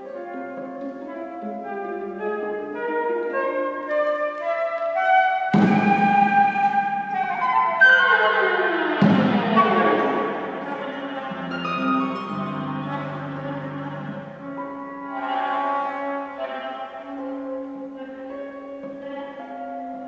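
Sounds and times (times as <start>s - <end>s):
flute viola and harp chamber music: 0.0s - 20.0s.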